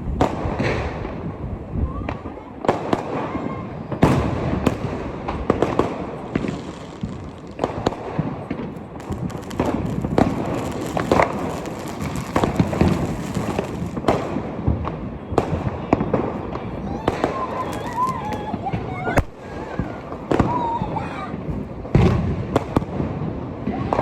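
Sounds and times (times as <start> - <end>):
firecrackers crackling: 2.1 - 24.0
firework bangs: 2.1 - 24.0.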